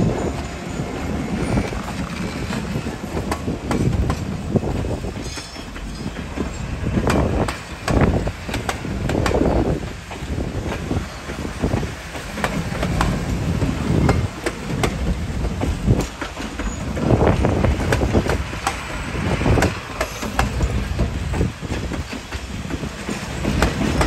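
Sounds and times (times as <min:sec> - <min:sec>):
train cars rumbling past: 0:00.0 - 0:24.0
wheels clicking over rail joints: 0:00.0 - 0:24.0.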